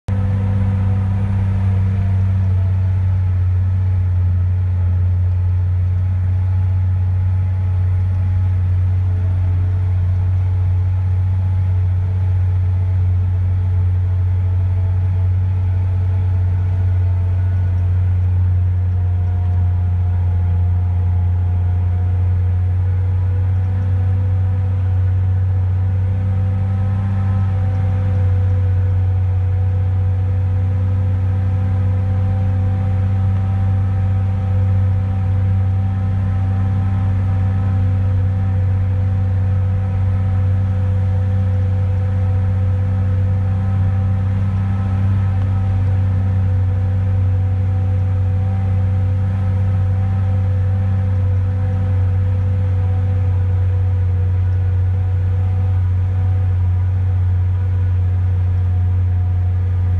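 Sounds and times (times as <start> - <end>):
truck engine drone: 0.0 - 59.9.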